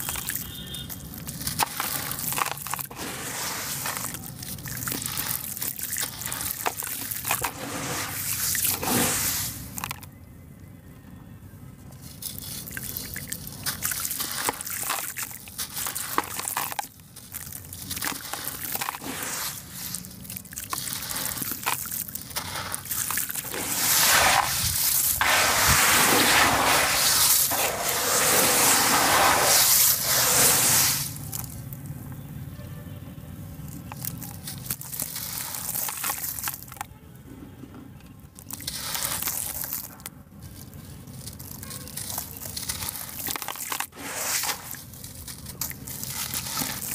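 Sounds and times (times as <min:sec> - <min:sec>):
crumbs splashing into water: 0:00.0 - 0:10.1, 0:12.0 - 0:31.6, 0:33.7 - 0:36.8, 0:38.4 - 0:46.9
gritty blocks crumbling by hand: 0:00.0 - 0:10.2, 0:12.0 - 0:31.8, 0:33.8 - 0:36.9, 0:38.2 - 0:46.9.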